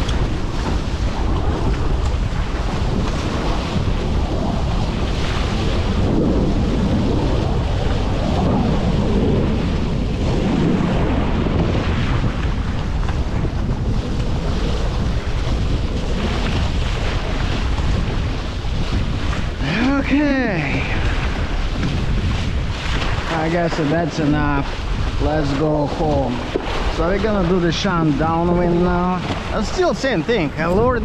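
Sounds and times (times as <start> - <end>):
water rushing along a wooden hull: 0.0 - 31.0
wind buffeting microphone: 0.0 - 31.0.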